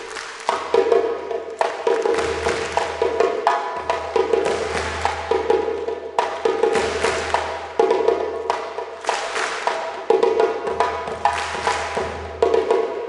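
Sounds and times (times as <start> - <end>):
hand drum ensemble: 0.0 - 13.0.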